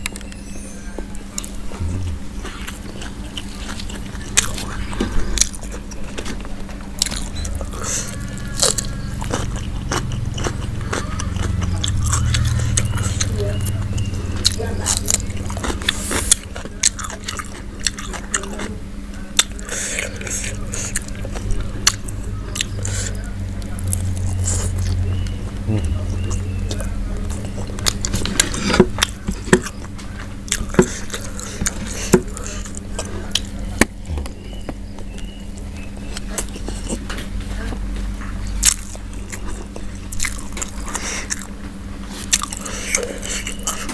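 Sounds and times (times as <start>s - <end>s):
chewing and crunching: 0.0s - 43.9s
low steady hum: 0.0s - 43.9s.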